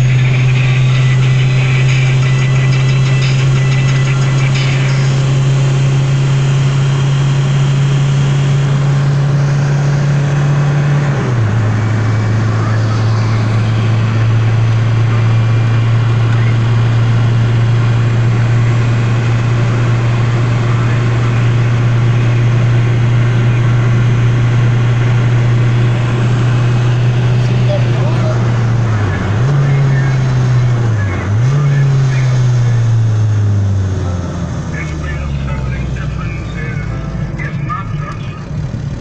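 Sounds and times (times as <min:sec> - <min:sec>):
car engine drone: 0:00.0 - 0:39.0.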